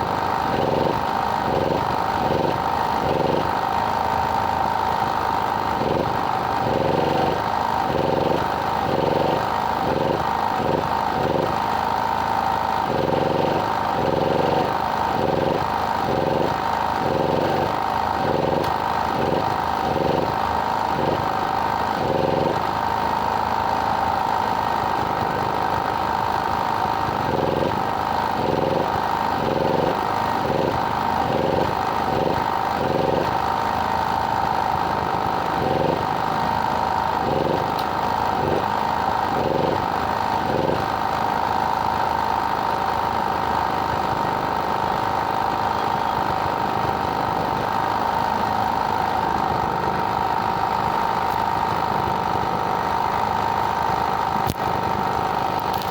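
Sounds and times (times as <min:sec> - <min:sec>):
engine running with pulsing hum: 0:00.0 - 0:55.9.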